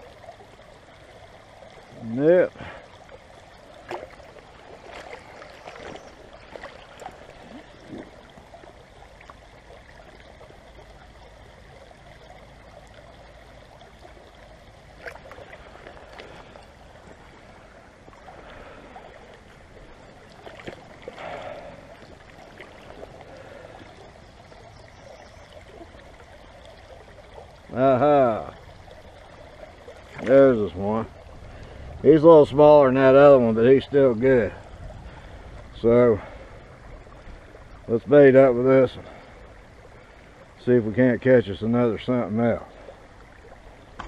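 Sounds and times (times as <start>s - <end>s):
shallow river water rippling: 0.0s - 44.0s.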